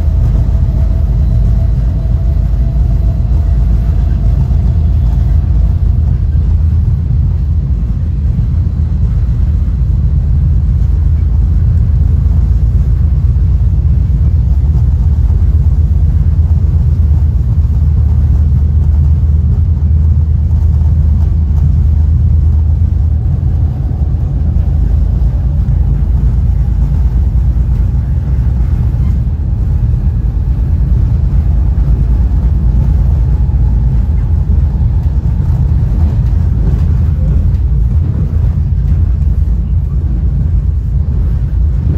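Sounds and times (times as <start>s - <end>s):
train car rumbling on track: 0.0s - 41.9s.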